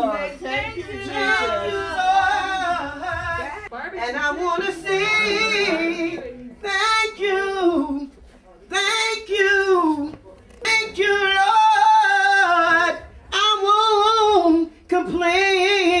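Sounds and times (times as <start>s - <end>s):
woman singing unaccompanied: 0.0s - 8.1s, 8.7s - 16.0s.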